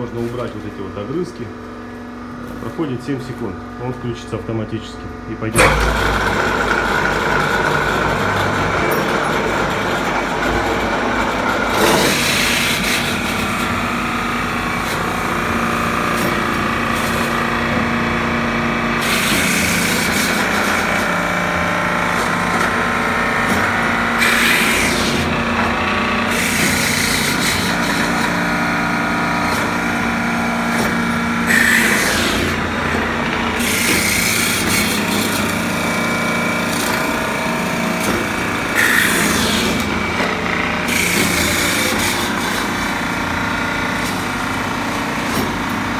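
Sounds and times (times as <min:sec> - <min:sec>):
woodworking machine motor running: 0:05.4 - 0:45.9
cutter hissing through wood: 0:05.5 - 0:45.9.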